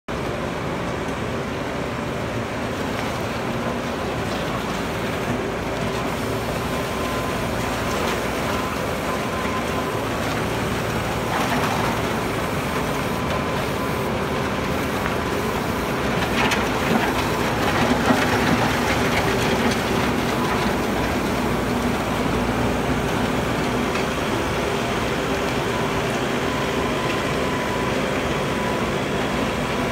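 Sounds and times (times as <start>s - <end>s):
loader diesel engine under load: 0.1s - 29.9s.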